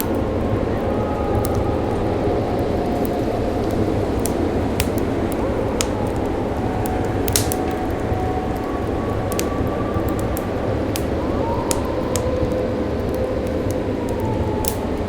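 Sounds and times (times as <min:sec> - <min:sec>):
distant city: 0:00.0 - 0:15.0
fireplace crackling and popping: 0:00.0 - 0:15.0
low rumble of wind: 0:00.0 - 0:15.0.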